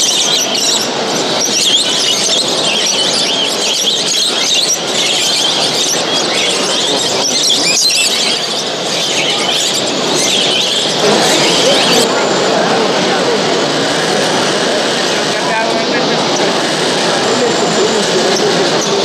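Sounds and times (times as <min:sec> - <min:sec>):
songbirds chirping and warbling: 0:00.0 - 0:12.4, 0:13.4 - 0:19.0
steady background noise: 0:00.0 - 0:19.0.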